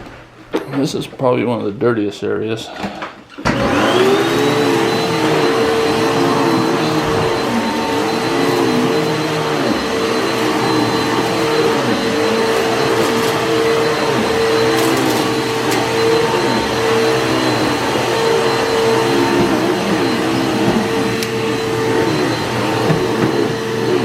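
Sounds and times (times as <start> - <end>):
vacuum cleaner running: 2.9 - 24.0.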